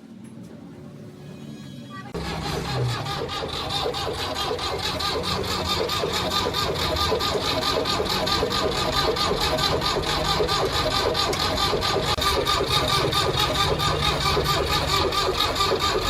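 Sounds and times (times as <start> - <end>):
tractor diesel engine running: 2.1 - 16.0.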